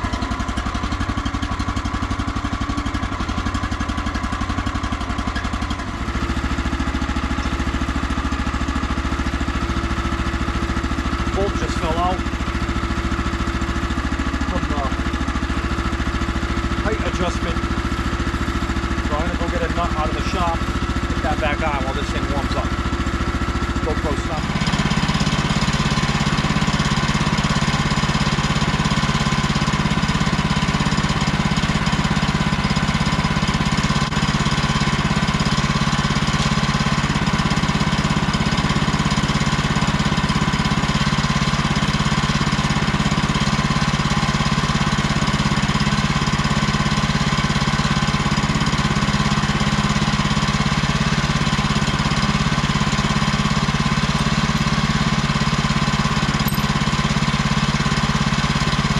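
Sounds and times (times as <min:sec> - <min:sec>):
gas engine idling: 0:00.0 - 0:58.9.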